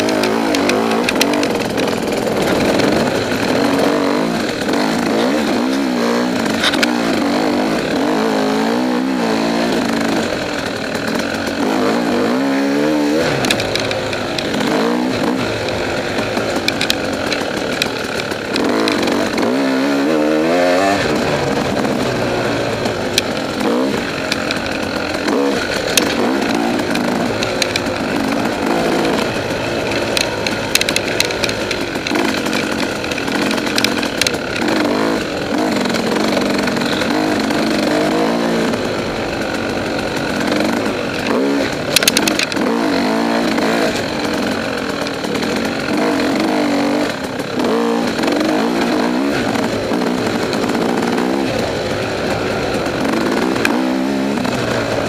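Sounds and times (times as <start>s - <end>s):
dirt bike engine revving: 0.0s - 55.0s
sharp clicks and knocks: 0.0s - 55.0s.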